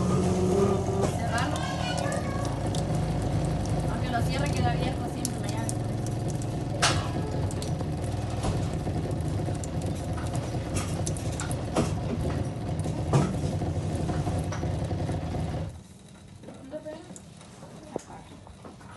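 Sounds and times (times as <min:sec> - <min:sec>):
filter motor hum: 0:00.0 - 0:18.7.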